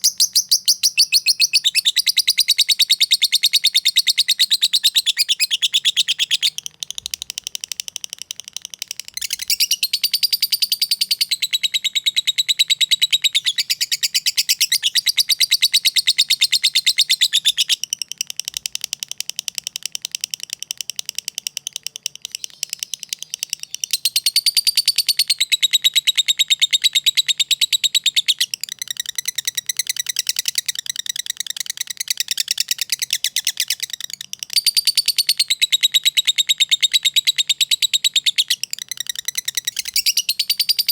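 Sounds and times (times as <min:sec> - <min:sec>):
lovebird chattering: 0:00.0 - 0:19.3, 0:20.4 - 0:40.9.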